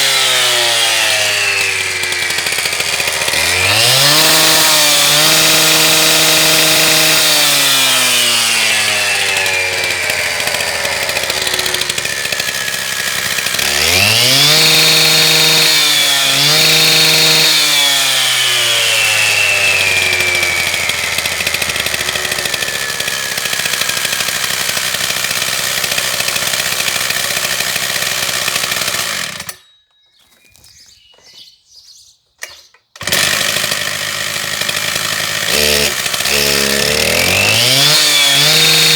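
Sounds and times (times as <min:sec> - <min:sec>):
concrete saw engine revving: 0:00.0 - 0:29.6, 0:33.0 - 0:38.9.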